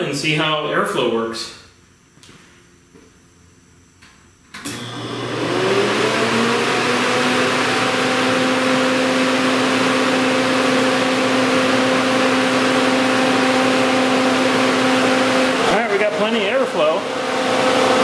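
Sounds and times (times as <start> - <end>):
electric cooling fan whirring: 0.0 - 18.0.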